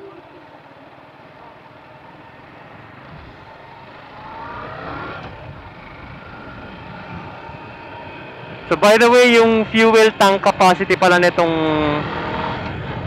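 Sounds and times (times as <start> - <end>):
motorcycle engine accelerating: 0.0 - 13.0
road and wind noise: 0.0 - 13.0.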